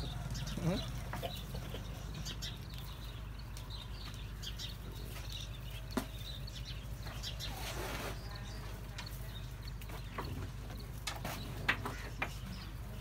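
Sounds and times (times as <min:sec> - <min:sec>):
bird chirps and clucks: 0:00.0 - 0:13.0.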